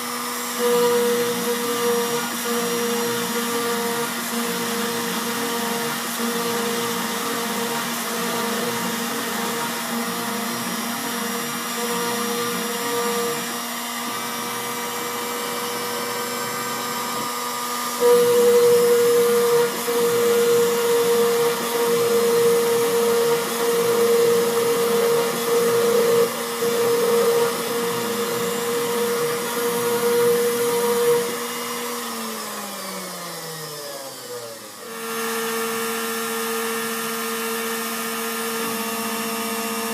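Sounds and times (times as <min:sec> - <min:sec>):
router spindle motor whine: 0:00.0 - 0:39.9.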